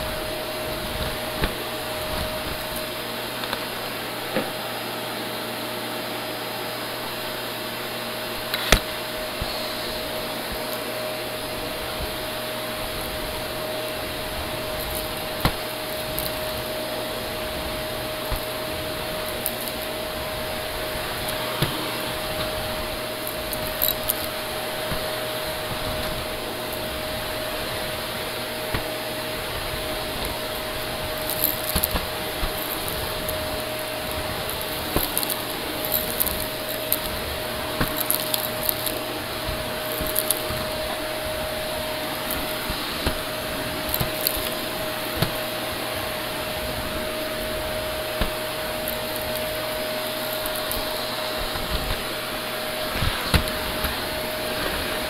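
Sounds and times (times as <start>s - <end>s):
vacuum cleaner motor whine: 0.0s - 55.0s
grit ticking up vacuum hose: 8.5s - 55.0s.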